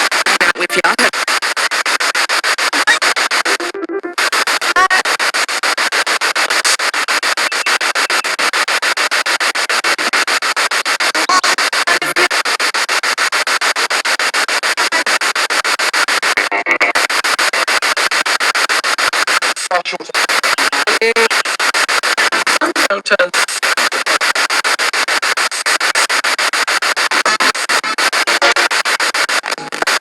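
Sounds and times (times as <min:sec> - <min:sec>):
radio static stuttering: 0:00.0 - 0:30.0
snatches of broadcast sound: 0:00.0 - 0:30.0.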